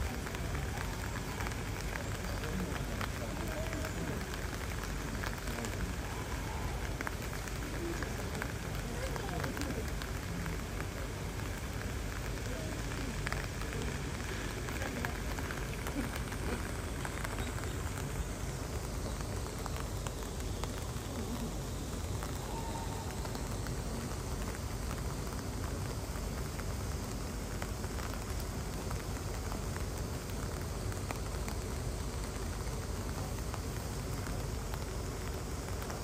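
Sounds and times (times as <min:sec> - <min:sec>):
faint ticks: 0:00.0 - 0:36.0
rain patter: 0:00.0 - 0:36.0.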